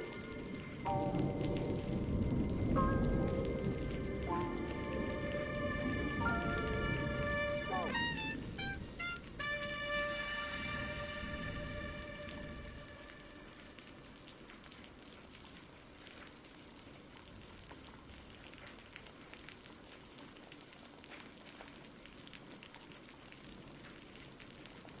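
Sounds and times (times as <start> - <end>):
faint steady rain: 0.0 - 25.0
raindrops pattering: 0.0 - 25.0.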